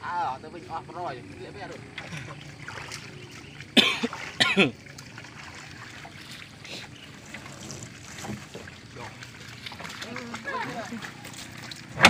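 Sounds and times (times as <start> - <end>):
water trickling and dripping: 0.2 - 12.0.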